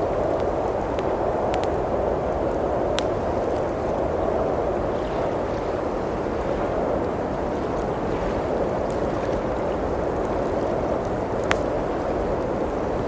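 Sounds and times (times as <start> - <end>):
blizzard wind rushing: 0.0 - 13.0
faint wood fire crackles: 0.0 - 13.0.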